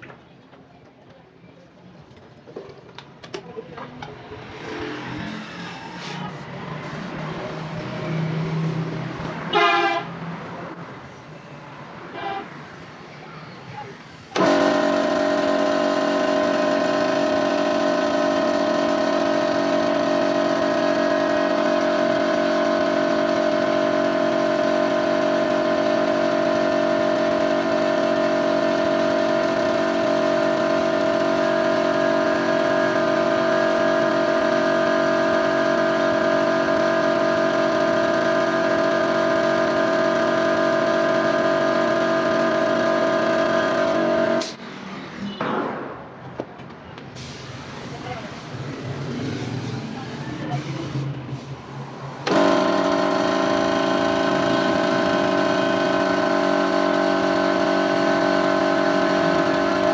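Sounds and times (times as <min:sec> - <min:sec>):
air compressor running: 0:04.4 - 0:11.2, 0:14.0 - 0:44.9, 0:47.1 - 0:59.9.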